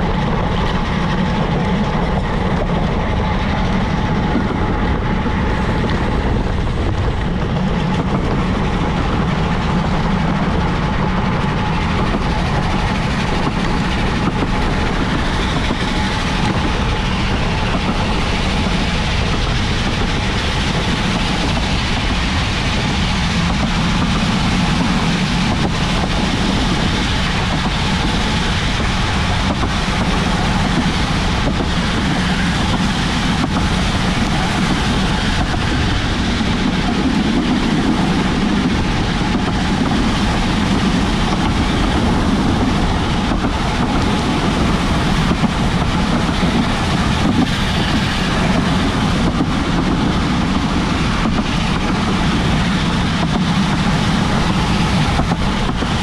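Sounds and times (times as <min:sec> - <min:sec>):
bicycle road noise: 0:00.0 - 0:56.0
wind on microphone: 0:00.0 - 0:56.0.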